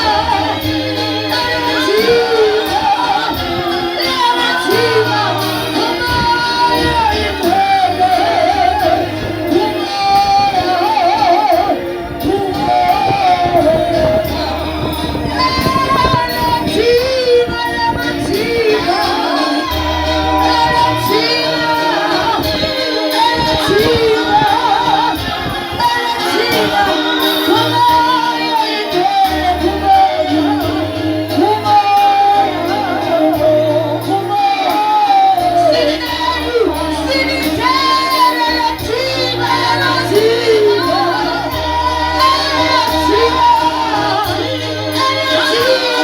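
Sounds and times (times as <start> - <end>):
keyboard with sustained bass: 0.0 - 46.0
steady percussion beat: 0.0 - 46.0
women singing with vibrato: 0.0 - 46.0.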